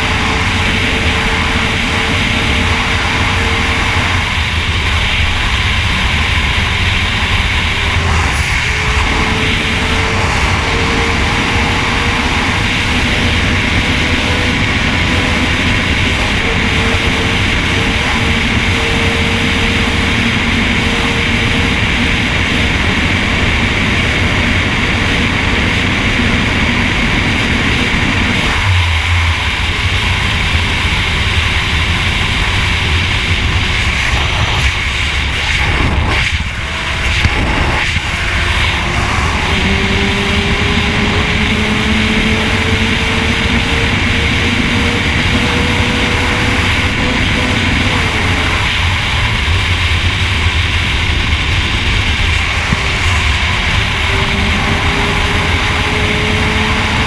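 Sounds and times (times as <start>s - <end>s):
motorcycle engine drone: 0.0s - 57.0s
wind rush on microphone: 0.0s - 57.0s.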